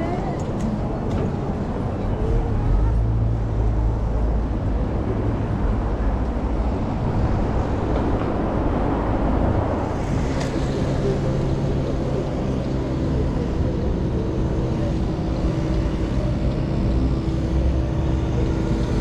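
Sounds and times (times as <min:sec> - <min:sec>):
cars driving past: 0:00.5 - 0:19.0.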